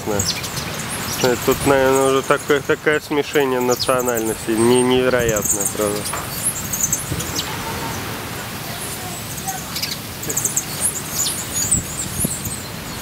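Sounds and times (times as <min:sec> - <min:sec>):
small birds chirping: 0:00.0 - 0:13.0
steady background noise: 0:00.0 - 0:13.0.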